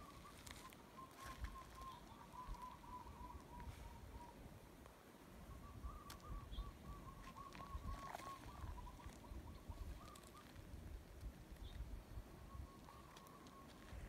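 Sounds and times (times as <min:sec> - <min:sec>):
faint bird calling: 0:00.0 - 0:04.6, 0:05.3 - 0:14.0.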